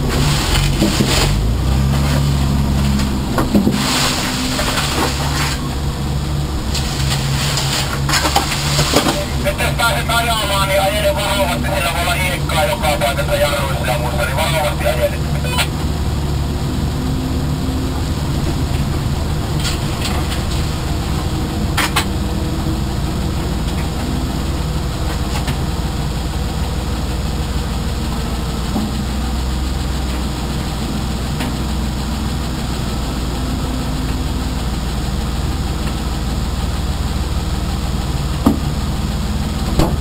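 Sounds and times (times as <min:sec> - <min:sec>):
race car engine idling: 0:00.0 - 0:40.0.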